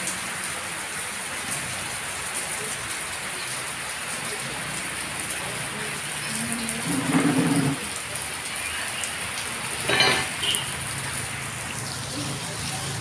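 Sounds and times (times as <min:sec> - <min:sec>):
heavy rain on roofs and street: 0:00.0 - 0:13.0.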